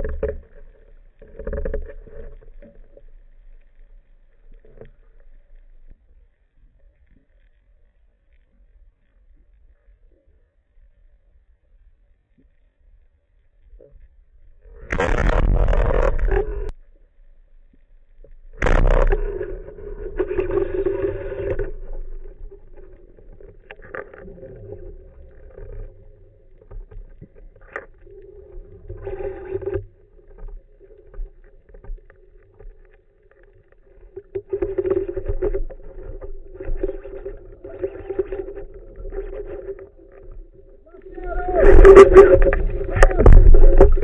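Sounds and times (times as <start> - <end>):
low underwater hum: 0.0 - 44.0.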